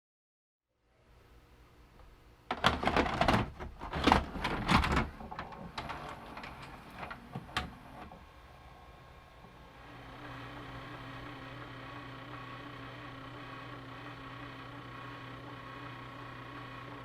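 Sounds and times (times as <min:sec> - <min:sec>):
faint steady hum: 0:00.7 - 0:17.0.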